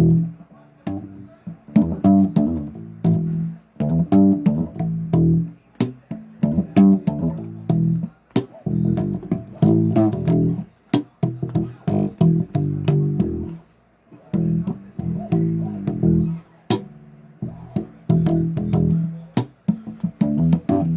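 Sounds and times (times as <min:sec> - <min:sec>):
bass guitar riffs: 0:00.0 - 0:20.9.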